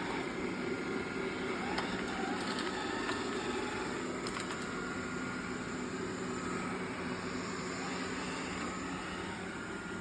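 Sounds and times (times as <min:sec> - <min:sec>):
robot vacuum motor whirring: 0:00.0 - 0:10.0.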